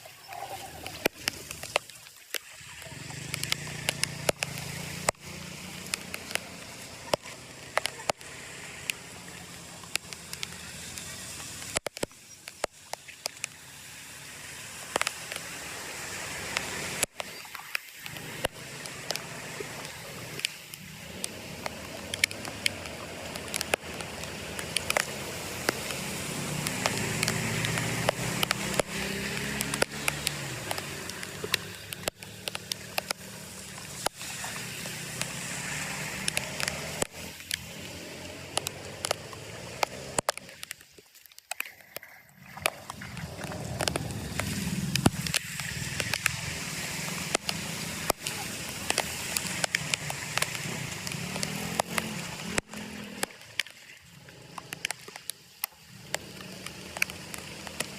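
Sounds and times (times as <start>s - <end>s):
flood water rushing: 0.0s - 57.9s
sharp crackling clicks: 0.0s - 57.9s.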